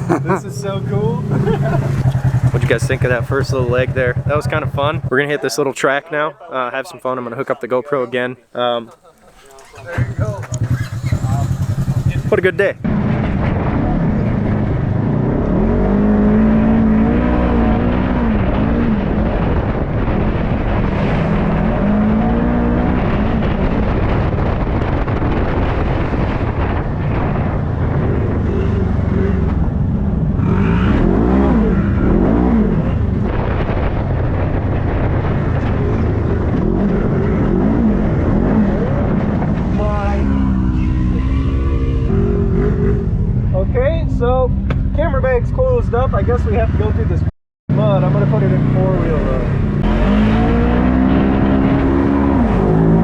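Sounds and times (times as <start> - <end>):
off-road vehicle engine revving: 0.0 - 5.8, 8.8 - 53.0
steady rumble and rushing noise: 0.0 - 5.8, 9.6 - 53.0.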